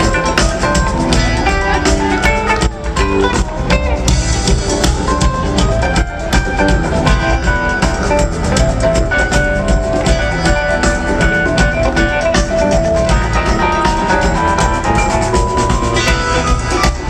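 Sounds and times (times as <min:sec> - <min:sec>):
drum kit beat: 0:00.0 - 0:17.0
guitar melody: 0:00.0 - 0:17.0.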